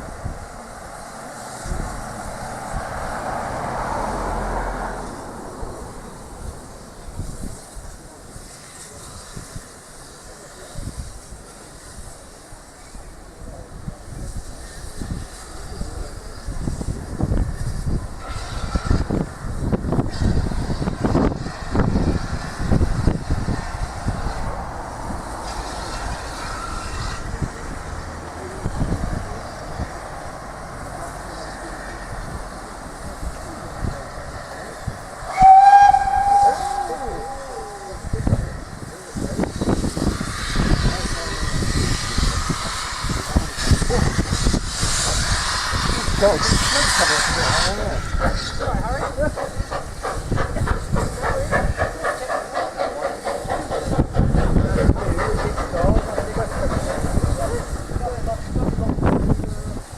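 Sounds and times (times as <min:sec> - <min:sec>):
steam engine hissing and beating: 0:00.0 - 0:59.9
train running rumble: 0:00.0 - 0:59.9.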